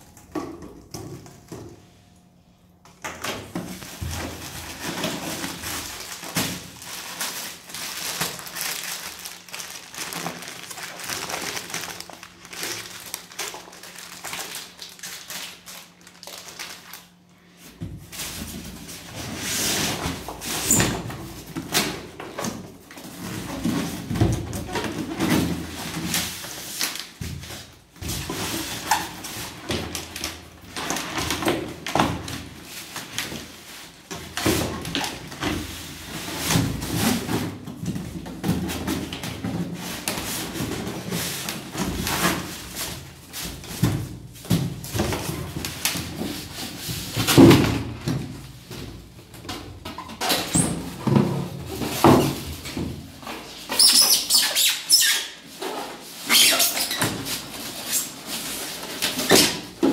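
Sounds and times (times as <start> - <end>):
crinkly plastic rustling: 3.2 - 54.7, 55.3 - 59.9.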